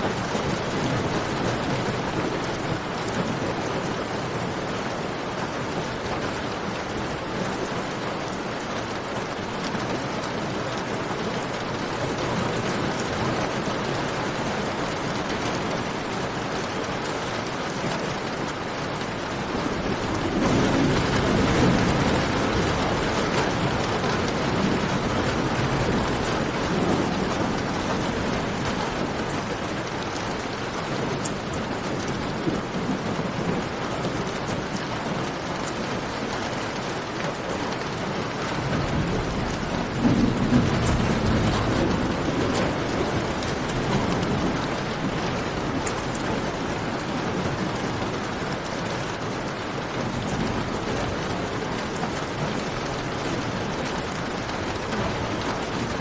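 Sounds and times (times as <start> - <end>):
rain falling in a cave: 0.0 - 56.0.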